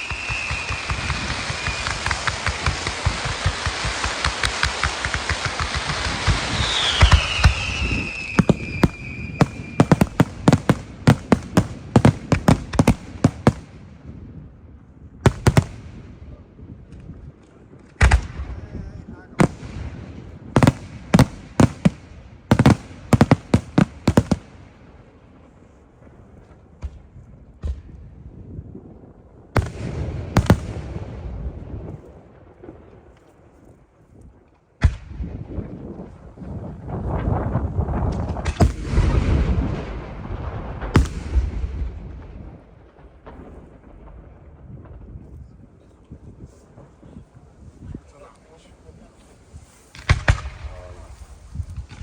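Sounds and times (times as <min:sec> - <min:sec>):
fireworks bangs: 0:00.0 - 0:14.6, 0:15.2 - 0:28.6, 0:29.6 - 0:33.5, 0:34.8 - 0:52.0.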